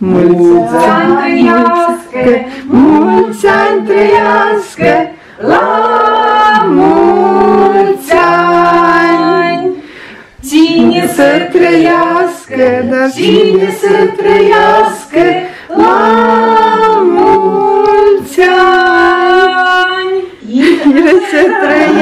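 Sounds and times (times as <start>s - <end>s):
women and children singing: 0.0s - 22.0s.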